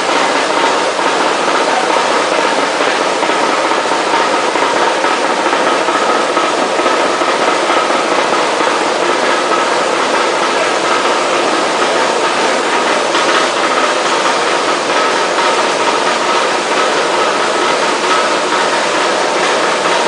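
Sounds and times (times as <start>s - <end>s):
machine running with faint whine: 0.0s - 20.0s.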